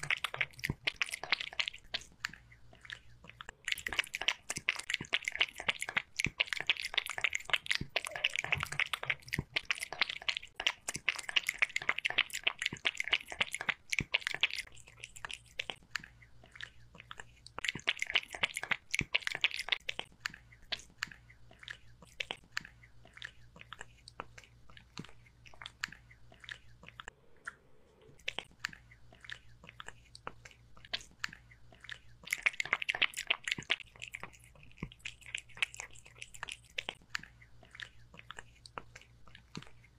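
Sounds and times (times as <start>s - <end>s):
kitten lapping from a bowl: 0.0s - 39.9s.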